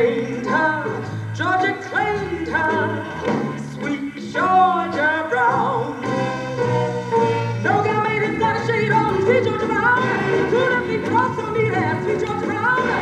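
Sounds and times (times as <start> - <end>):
steady bass accompaniment: 0.0 - 13.0.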